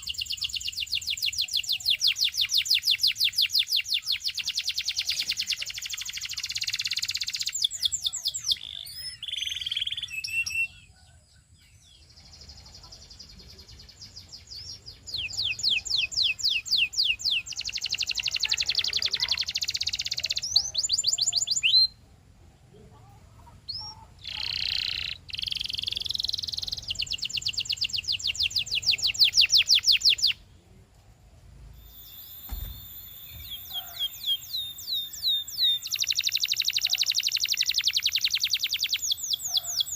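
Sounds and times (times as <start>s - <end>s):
canary singing in rapid trills: 0.0s - 10.9s, 12.0s - 22.0s, 23.5s - 30.4s, 31.8s - 39.9s.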